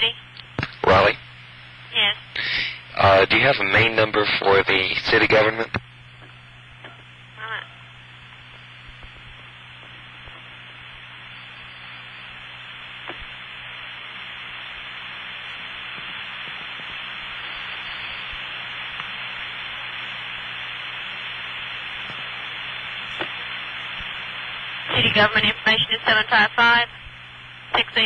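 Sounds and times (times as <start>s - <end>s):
telephone line hiss and hum: 0.0s - 28.0s.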